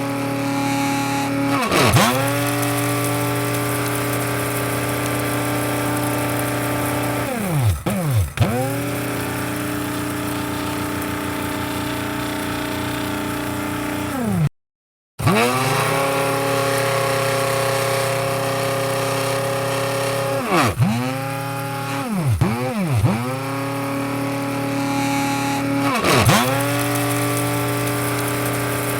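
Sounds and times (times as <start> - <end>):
electric coffee grinder whining: 0.0 - 14.5, 15.2 - 28.9.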